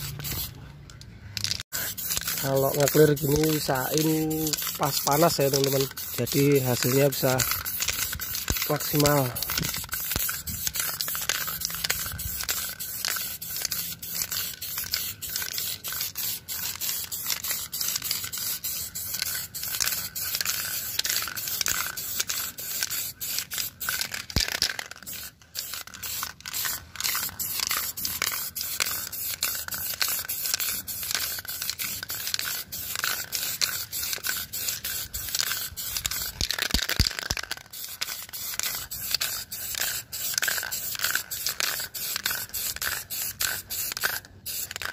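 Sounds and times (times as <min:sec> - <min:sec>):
spray can hissing bursts: 0:00.0 - 0:00.5, 0:01.4 - 0:44.9.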